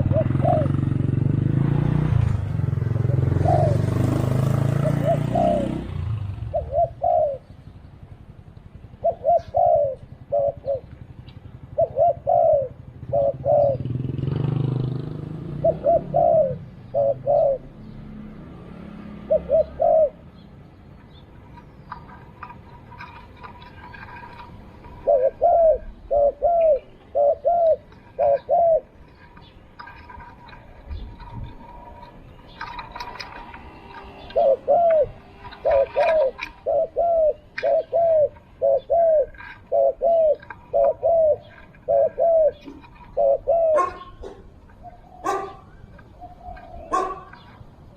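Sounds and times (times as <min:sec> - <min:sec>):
dove cooing: 0:00.0 - 0:01.5, 0:02.1 - 0:18.4, 0:19.0 - 0:47.9.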